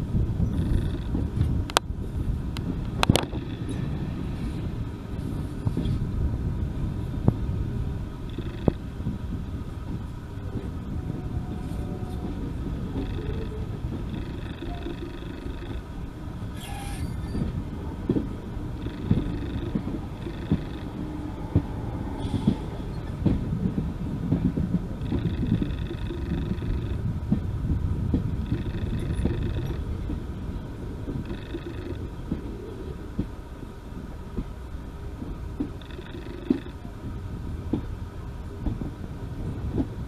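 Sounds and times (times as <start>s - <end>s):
train low rumble with knocks: 0.0s - 40.0s.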